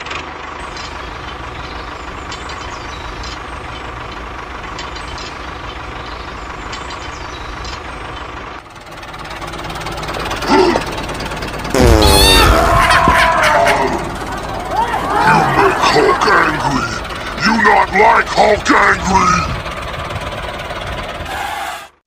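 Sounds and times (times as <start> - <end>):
tractor engine rumbling: 0.0 - 22.0.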